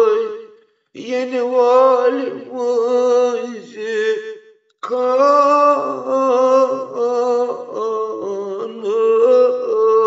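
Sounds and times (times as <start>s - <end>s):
person chanting: 0.0s - 10.0s.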